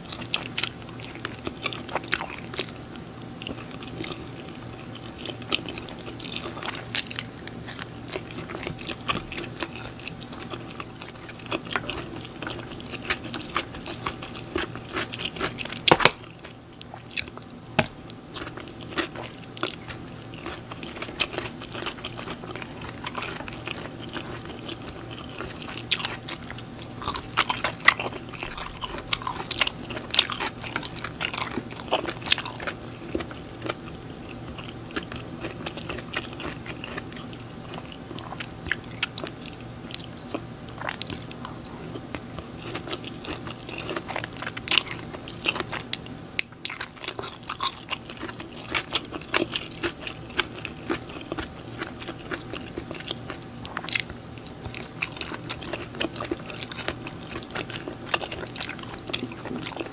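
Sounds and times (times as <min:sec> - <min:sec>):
faint steady hum: 0:00.0 - 0:59.9
wet chewing and lip smacking: 0:00.1 - 0:59.9.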